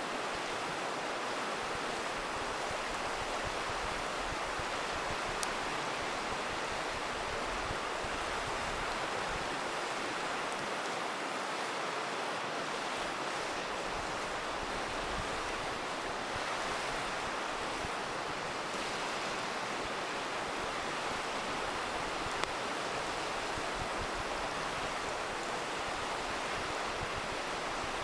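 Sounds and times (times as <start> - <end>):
river rushing: 0.0 - 28.0
campfire crackling: 0.3 - 12.0, 12.6 - 28.0.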